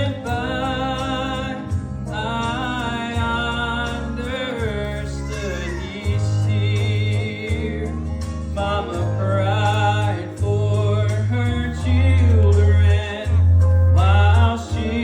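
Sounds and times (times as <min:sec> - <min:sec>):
heavy bass line: 0:00.0 - 0:15.0
man singing gospel: 0:00.0 - 0:15.0.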